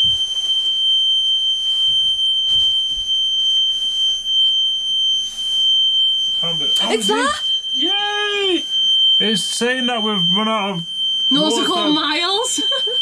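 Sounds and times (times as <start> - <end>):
alarm buzzing steady high tone: 0.0 - 13.0.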